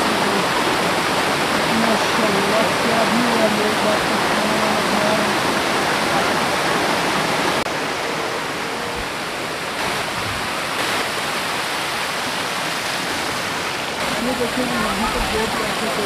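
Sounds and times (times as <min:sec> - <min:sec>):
stream pouring over weir: 0:00.0 - 0:16.0.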